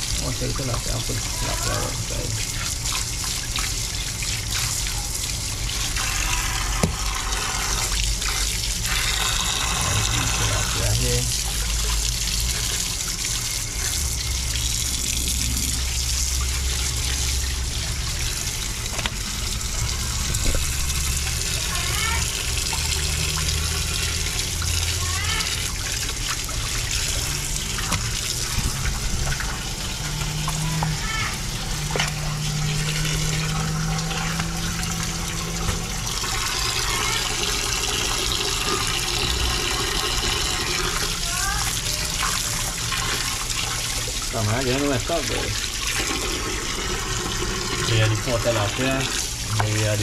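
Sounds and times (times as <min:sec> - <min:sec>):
tap water running and splashing: 0:00.0 - 0:50.0.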